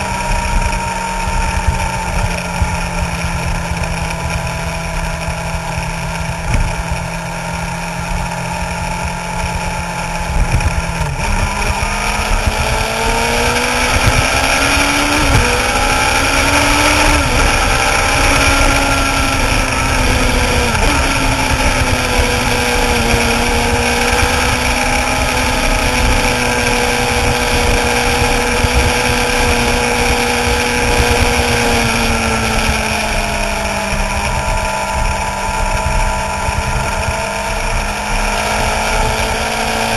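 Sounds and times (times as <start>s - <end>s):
motorcycle engine at road speed: 0.0s - 39.9s
wind noise on microphone: 0.0s - 39.9s.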